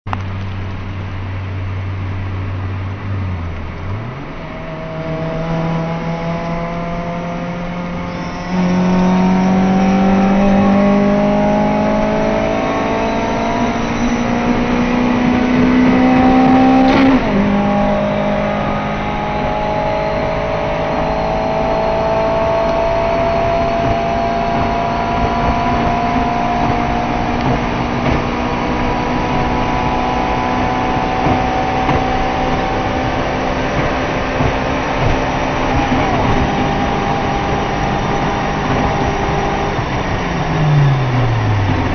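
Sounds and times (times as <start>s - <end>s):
car engine accelerating: 0.1s - 41.9s.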